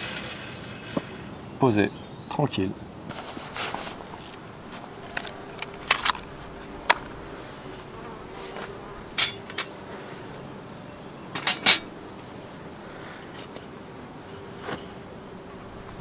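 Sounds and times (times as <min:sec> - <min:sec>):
insect buzzing: 0:02.8 - 0:16.0.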